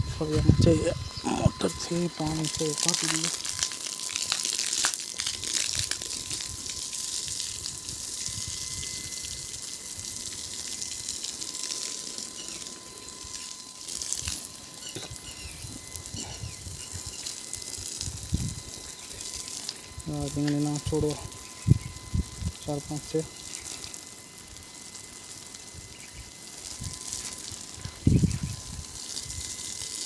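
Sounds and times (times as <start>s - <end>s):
electric water pump motor: 0.0s - 30.0s
water gushing from a hose: 0.0s - 30.0s.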